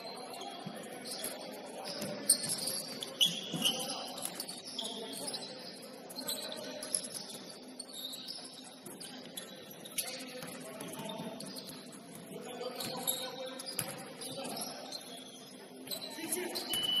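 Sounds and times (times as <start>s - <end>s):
murmur of voices: 0.0s - 17.0s
shoes squeaking on gym floor: 0.0s - 17.0s.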